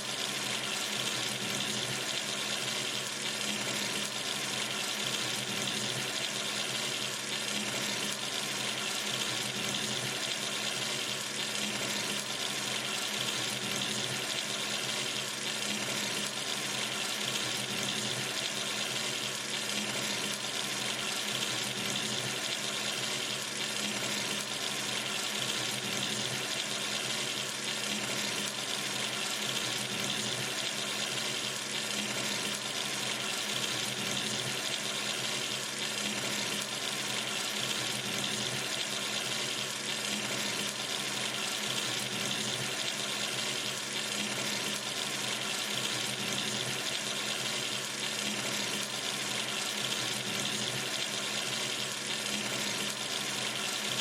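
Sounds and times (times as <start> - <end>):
water running from tap: 0.0 - 54.0.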